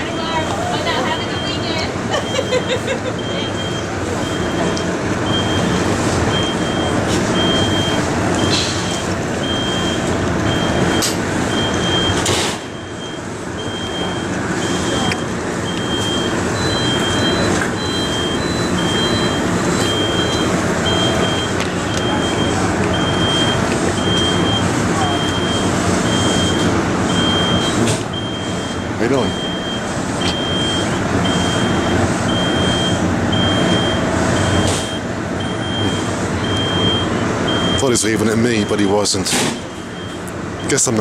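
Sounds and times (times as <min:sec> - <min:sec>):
diesel locomotive idling: 0:00.0 - 0:41.0
high electronic beeps: 0:01.0 - 0:38.9.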